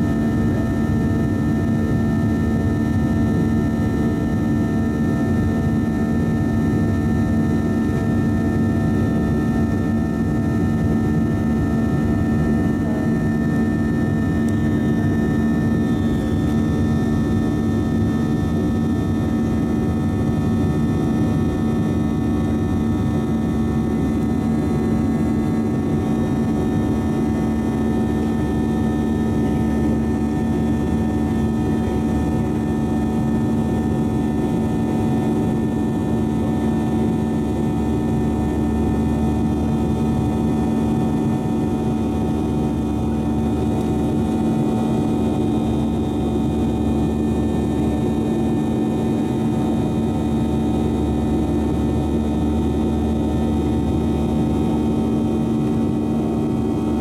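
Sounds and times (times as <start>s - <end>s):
constant hum tones: 0.0s - 57.0s
jet engine drone in cabin: 0.0s - 57.0s.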